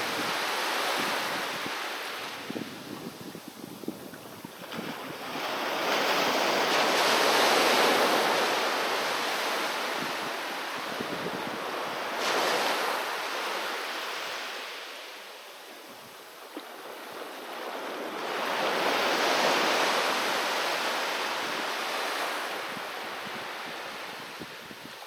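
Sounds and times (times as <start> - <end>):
sea waves breaking on shore: 0.0 - 25.0.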